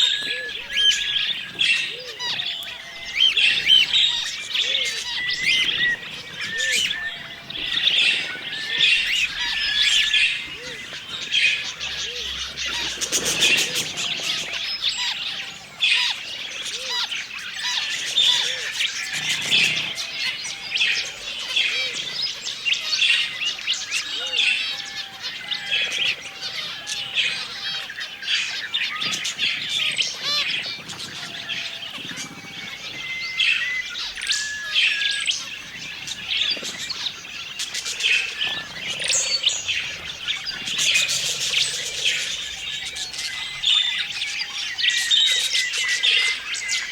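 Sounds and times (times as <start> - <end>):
budgerigars chirping and squawking: 0.0 - 46.9.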